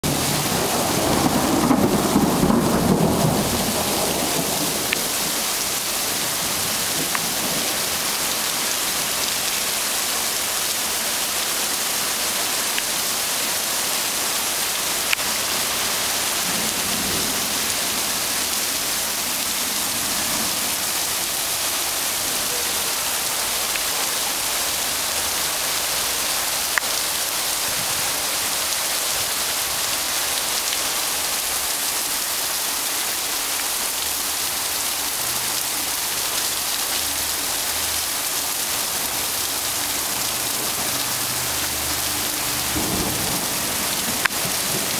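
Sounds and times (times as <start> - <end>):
hail and heavy rain on asphalt: 0.0 - 44.9.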